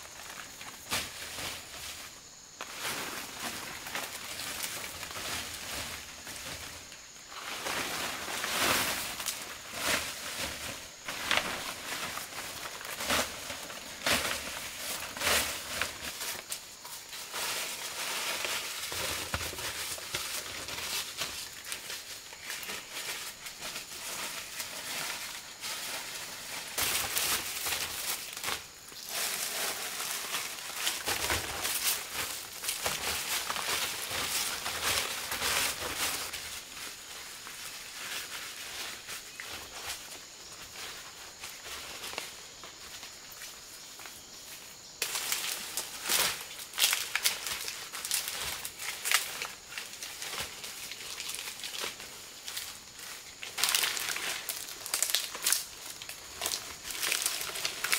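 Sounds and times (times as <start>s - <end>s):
leaves rustling and crackling: 0.0s - 57.9s.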